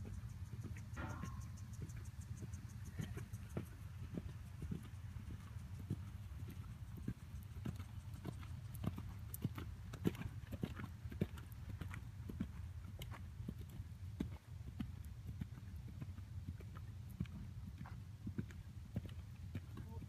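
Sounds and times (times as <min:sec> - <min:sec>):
horse hooves thudding on dirt: 0:00.0 - 0:20.0.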